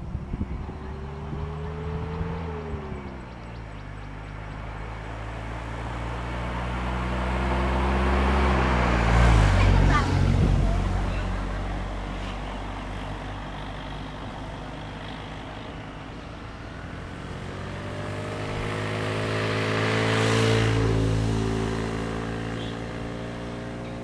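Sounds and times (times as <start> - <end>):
motor vehicle engines: 0.0 - 24.0.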